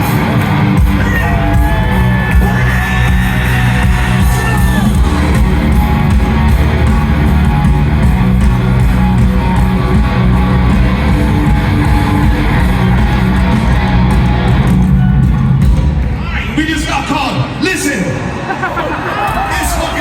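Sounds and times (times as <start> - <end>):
bass guitar: 0.0 - 16.3
strummed electric guitars: 0.0 - 16.3
live rock band: 0.0 - 16.6.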